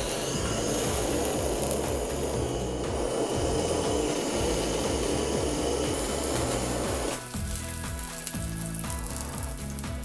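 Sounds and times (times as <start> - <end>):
gas torch hissing: 0.0 - 10.0
hot oil crackling: 0.0 - 10.0.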